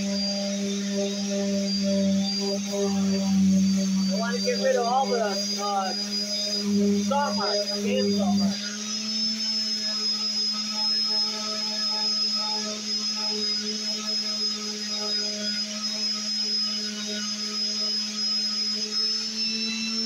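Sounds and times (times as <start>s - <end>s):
orbital sander on wood: 0.0s - 20.0s.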